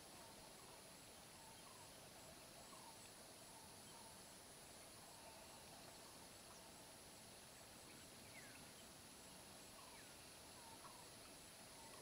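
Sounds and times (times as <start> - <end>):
pulsing insect chirp: 0.0 - 12.0.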